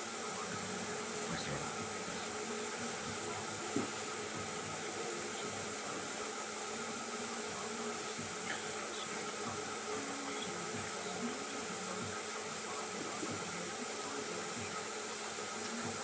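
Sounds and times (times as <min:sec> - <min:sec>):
machine whirring hiss: 0:00.0 - 0:16.0.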